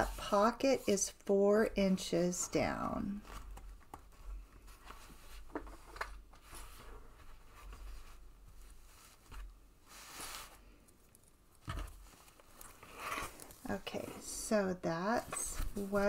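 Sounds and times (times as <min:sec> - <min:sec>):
fabric rustle: 0:02.7 - 0:16.0.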